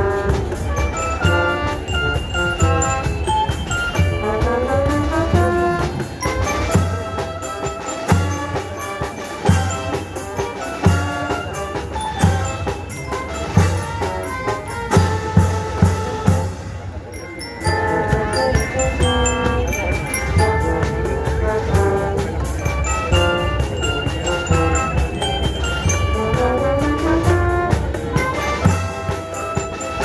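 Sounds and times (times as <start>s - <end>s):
heavy drum beats: 0.0s - 30.0s
school band playing: 0.0s - 30.0s
bell-like mallet melody: 0.3s - 30.0s.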